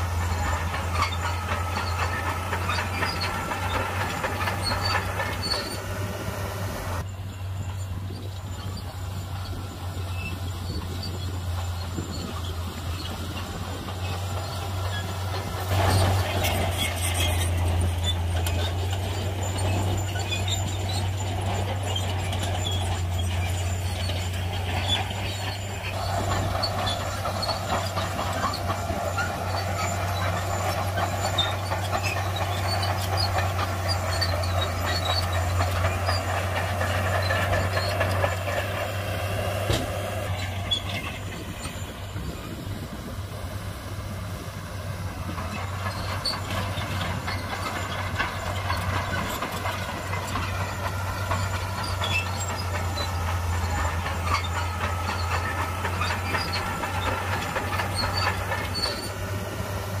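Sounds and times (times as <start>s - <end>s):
diesel machinery engine hum: 0.0s - 60.0s.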